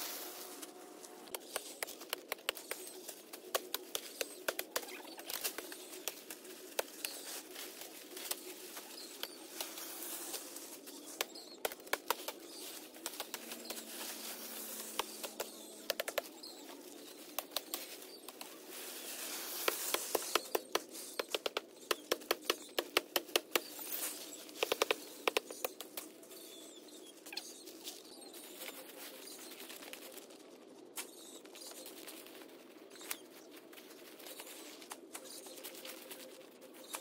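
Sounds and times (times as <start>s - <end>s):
leaves and branches rustling: 0.0s - 37.0s.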